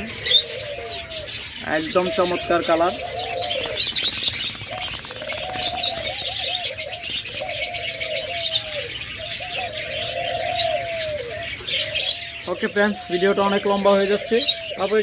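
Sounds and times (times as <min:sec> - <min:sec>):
doves cooing: 0:00.0 - 0:15.0
small cage birds chirping: 0:00.0 - 0:15.0.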